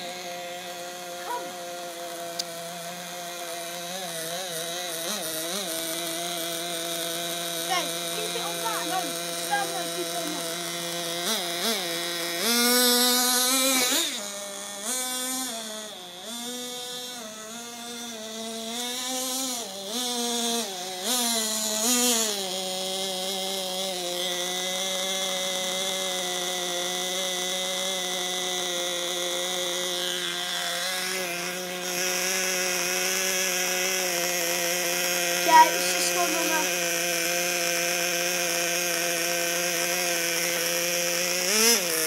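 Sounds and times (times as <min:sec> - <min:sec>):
small engine revving: 0:00.0 - 0:42.0.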